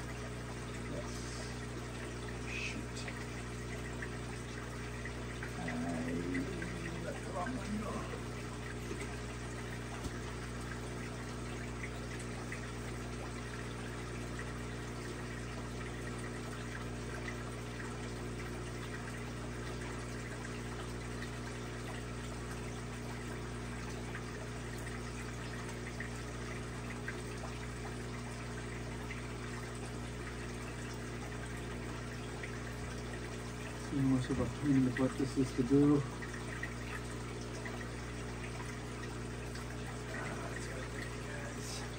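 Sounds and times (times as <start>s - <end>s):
low electrical hum: 0.0s - 41.9s
moving water: 0.0s - 41.9s.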